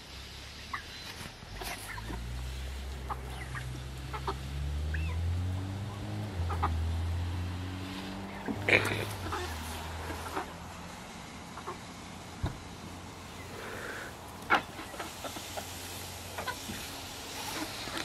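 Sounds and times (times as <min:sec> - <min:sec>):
hens clucking: 0:00.7 - 0:18.0.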